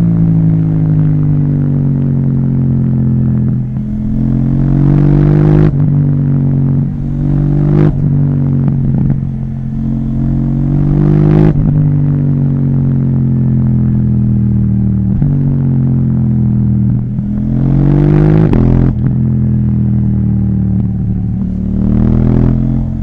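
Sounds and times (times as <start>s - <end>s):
exhaust cracking: 0.0s - 23.0s
motorcycle engine revving: 0.0s - 23.0s.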